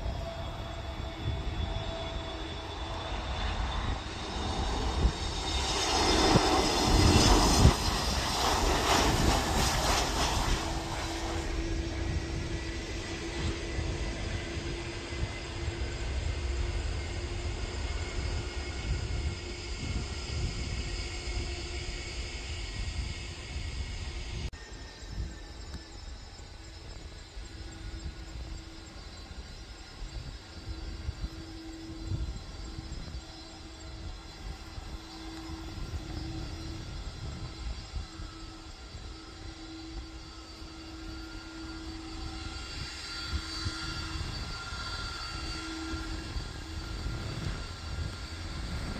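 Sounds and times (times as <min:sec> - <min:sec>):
jet airliner engine noise: 0:00.0 - 0:48.9.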